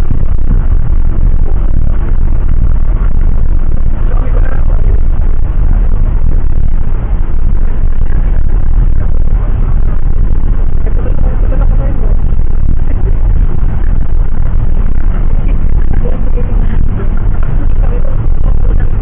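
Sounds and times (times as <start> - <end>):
jet engine rumble inside cabin: 0.0 - 19.0.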